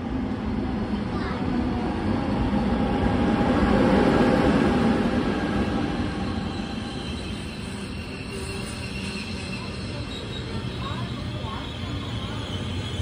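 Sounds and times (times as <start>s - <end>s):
passenger train rumbling past: 0.0s - 13.0s.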